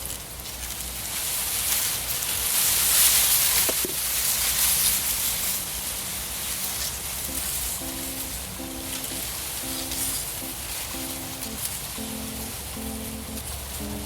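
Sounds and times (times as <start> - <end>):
wind rustling through reeds: 0.0 - 14.0.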